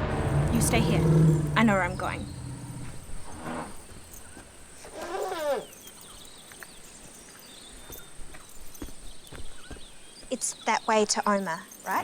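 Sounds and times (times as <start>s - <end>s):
faint bird chirps: 0.7s - 12.0s.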